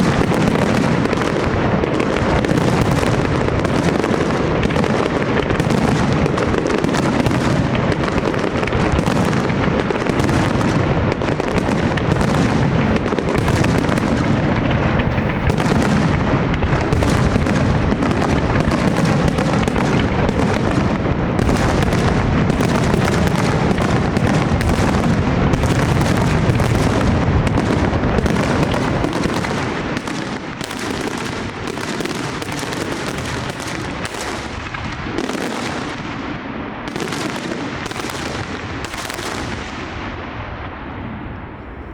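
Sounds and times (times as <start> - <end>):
fireworks bursts and bangs: 0.0 - 41.9.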